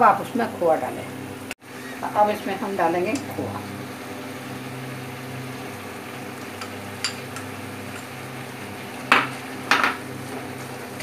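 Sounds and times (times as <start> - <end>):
cooktop fan humming: 0.0 - 11.0.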